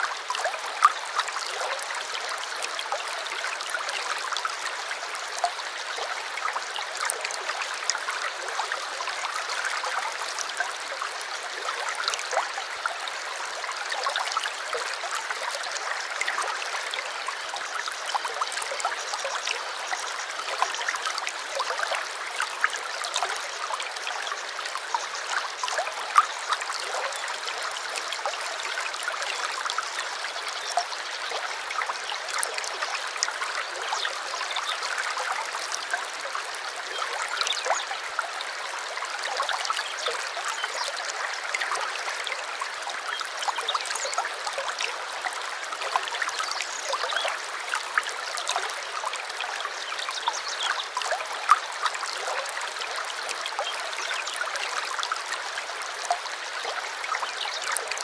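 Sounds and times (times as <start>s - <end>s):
small stream babbling: 0.0s - 58.0s.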